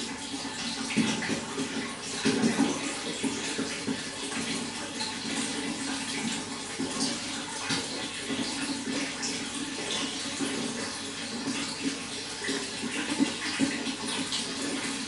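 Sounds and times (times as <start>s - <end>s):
running water splashing: 0.0s - 15.0s.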